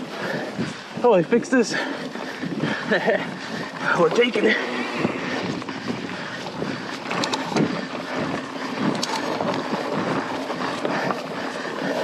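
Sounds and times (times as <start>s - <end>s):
bike clacking over bumps: 0.0s - 12.0s
bike tyres rolling on dirt: 0.0s - 12.0s
wind buffeting microphone: 0.0s - 12.0s.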